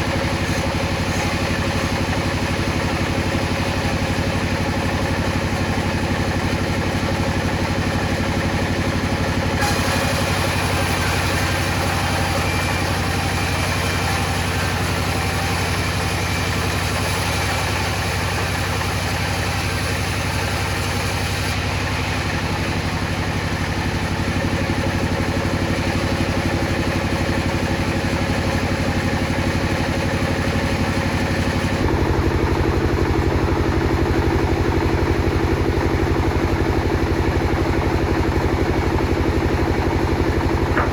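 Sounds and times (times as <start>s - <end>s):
table saw running: 0.0s - 40.9s.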